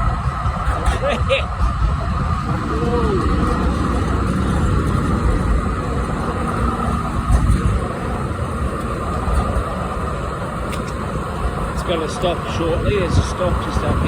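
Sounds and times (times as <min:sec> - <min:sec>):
low rumbling: 0:00.0 - 0:14.0
road traffic: 0:00.0 - 0:14.0
tram running: 0:00.0 - 0:14.0
wind buffeting microphone: 0:00.0 - 0:14.0.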